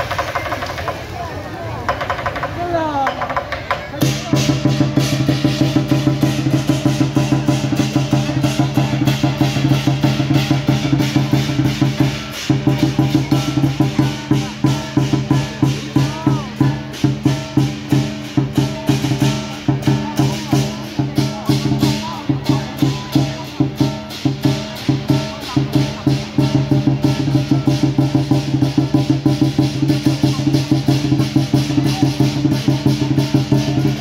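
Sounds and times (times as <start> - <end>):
large drum beaten fast: 1.8 - 34.0
clashing cymbals: 3.9 - 34.0.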